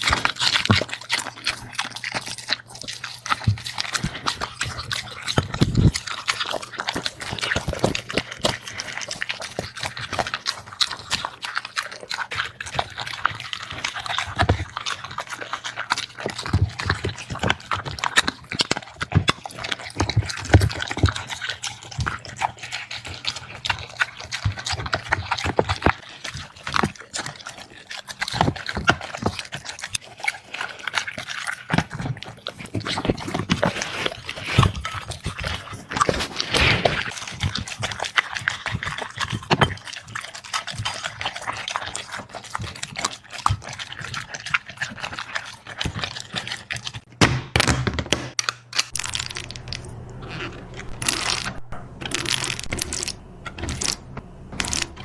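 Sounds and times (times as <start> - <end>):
dogs chewing and smacking: 0.0 - 47.2.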